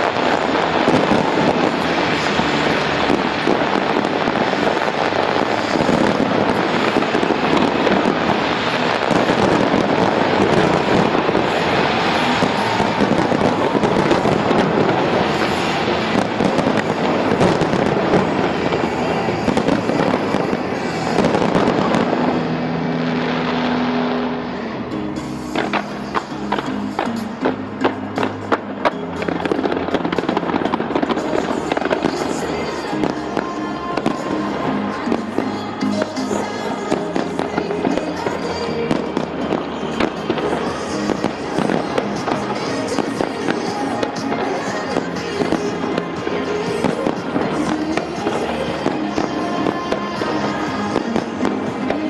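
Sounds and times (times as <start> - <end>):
fireworks bangs and crackling: 0.0 - 52.0
music with held tone: 0.0 - 52.0.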